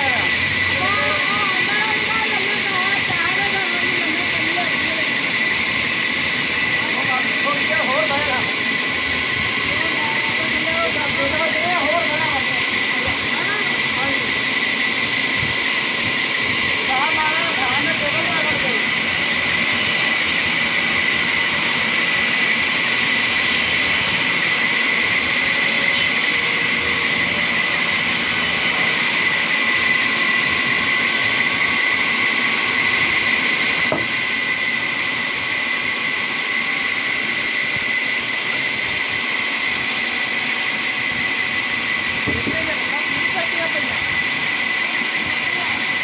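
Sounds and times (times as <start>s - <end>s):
sawmill saw whining: 0.0s - 46.0s.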